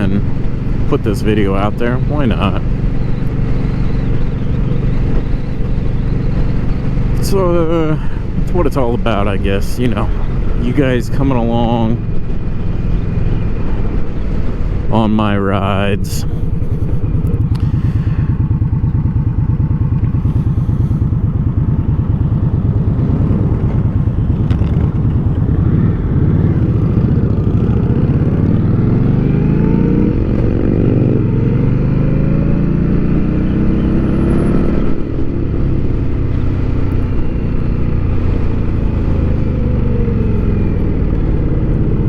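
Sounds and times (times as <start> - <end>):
wind rumble on microphone: 0.0 - 18.7, 19.4 - 42.0
motorcycle engine running: 0.0 - 42.0.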